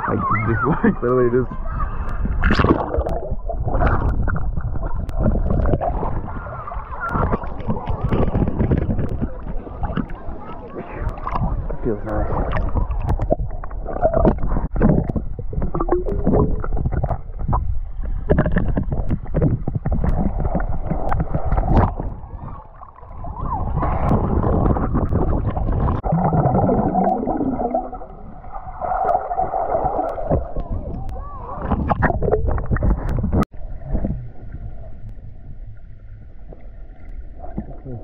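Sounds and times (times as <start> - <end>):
underwater water sloshing and gurgling: 0.0 - 38.0.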